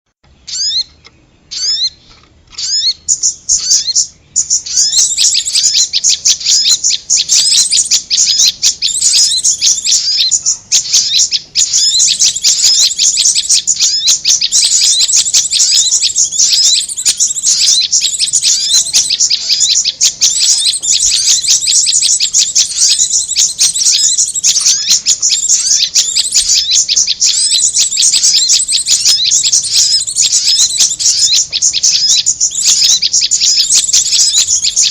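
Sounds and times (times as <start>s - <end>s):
bird chirping rapidly: 0.3s - 34.9s.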